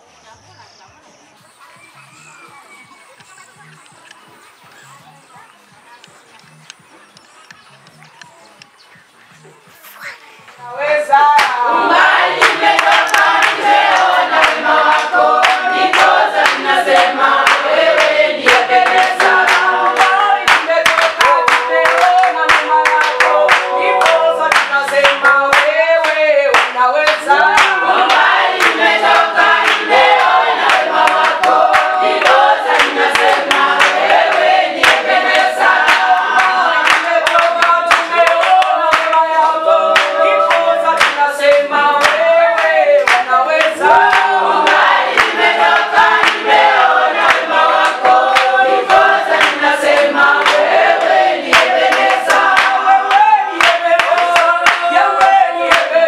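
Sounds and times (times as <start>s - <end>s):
rhythmic hand clapping: 1.4s - 56.0s
congregation singing: 10.5s - 56.0s.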